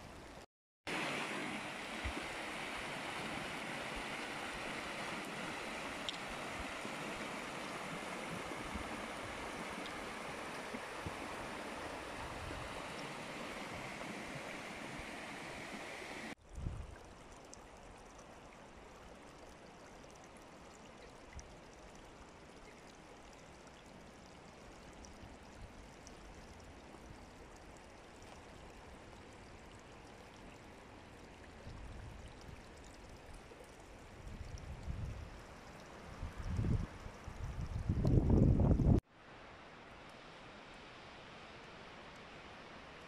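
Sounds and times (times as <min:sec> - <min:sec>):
stream running: 0:00.0 - 0:43.0.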